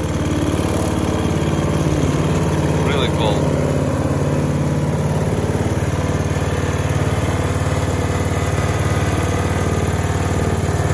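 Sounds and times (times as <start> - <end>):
snowblower engine running: 0.0 - 10.9.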